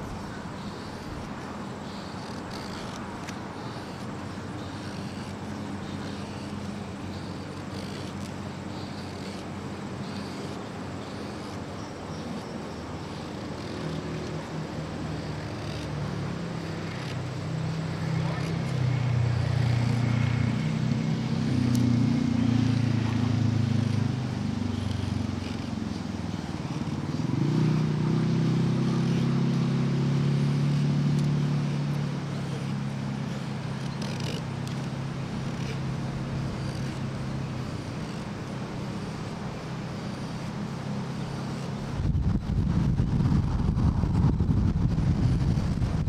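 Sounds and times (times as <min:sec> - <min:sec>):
motor engine running: 0:00.0 - 0:46.0.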